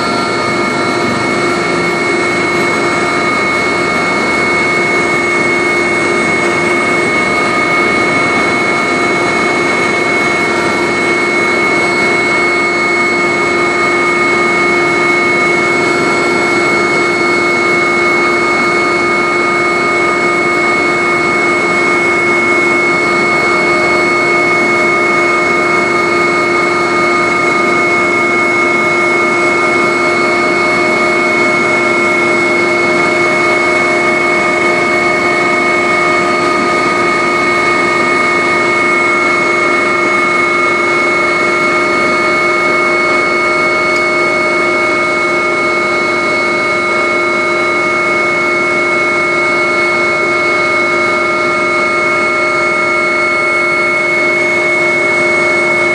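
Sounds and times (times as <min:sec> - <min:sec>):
helicopter turbine and rotor: 0:00.0 - 0:55.9
whining turbine tones: 0:00.0 - 0:55.9.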